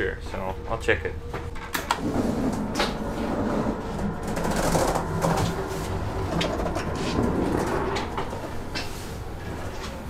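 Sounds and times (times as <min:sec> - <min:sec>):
low wavering hum: 0:00.0 - 0:10.0
train running rumble: 0:00.0 - 0:10.0.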